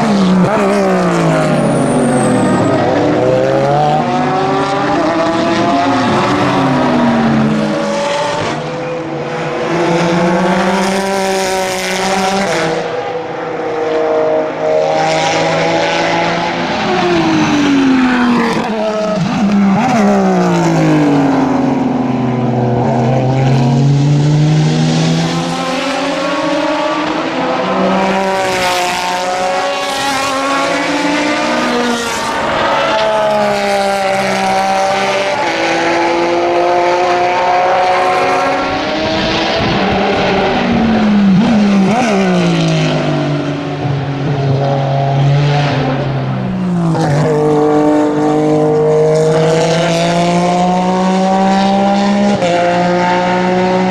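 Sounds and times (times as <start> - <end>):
racing car engines revving: 0.0 - 53.9.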